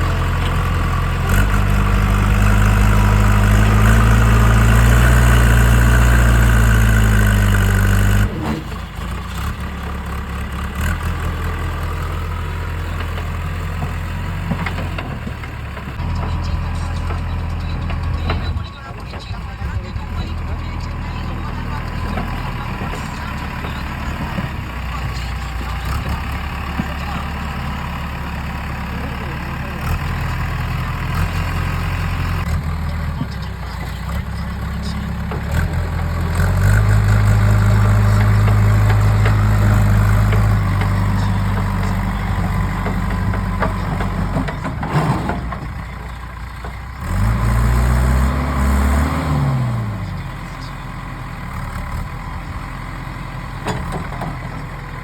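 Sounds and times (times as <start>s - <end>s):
diesel engines idling and revving: 0.0s - 55.0s.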